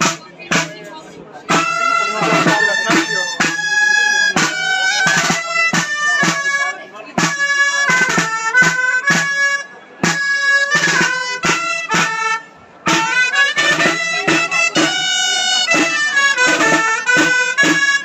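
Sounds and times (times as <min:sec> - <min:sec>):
drum accompaniment: 0:00.0 - 0:18.0
nasal shawm melody: 0:00.0 - 0:18.0.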